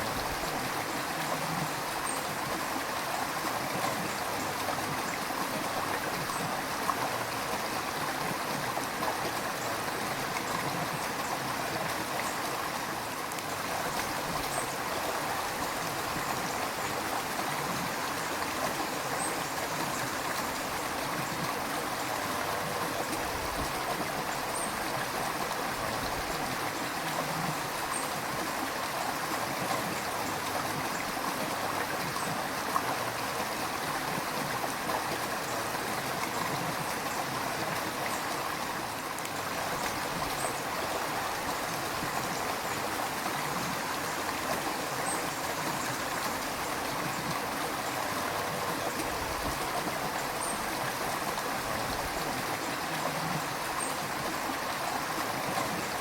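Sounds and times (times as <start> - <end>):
river water rushing and babbling: 0.0 - 56.0.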